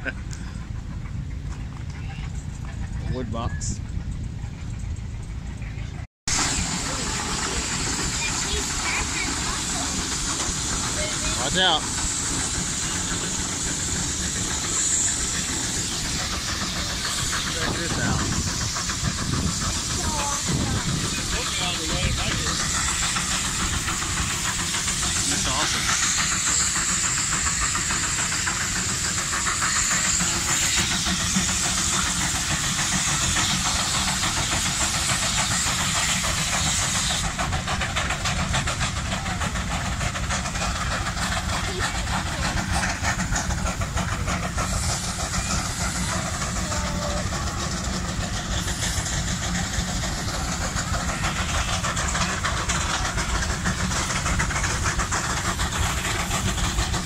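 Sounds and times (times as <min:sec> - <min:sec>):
steam traction engines running: 0:00.0 - 0:57.0
hiss of escaping steam: 0:06.3 - 0:57.0.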